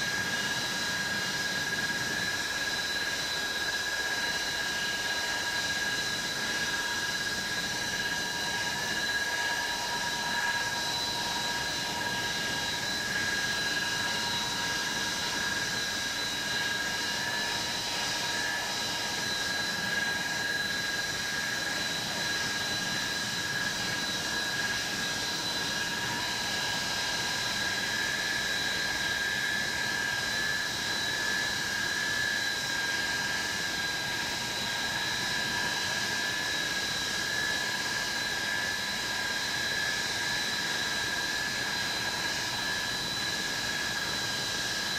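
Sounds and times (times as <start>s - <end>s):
high jet engine whine: 0.0s - 44.9s.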